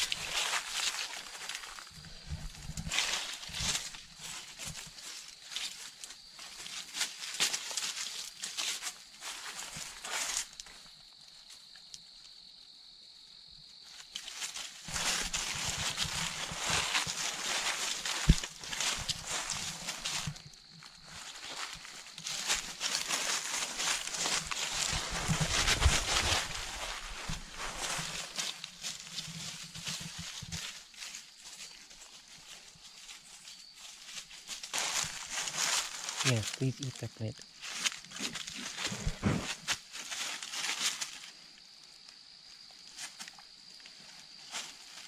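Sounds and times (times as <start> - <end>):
footsteps crunching through dry leaves: 0.0 - 11.8, 13.8 - 45.0
high-pitched insect trill: 0.0 - 45.0.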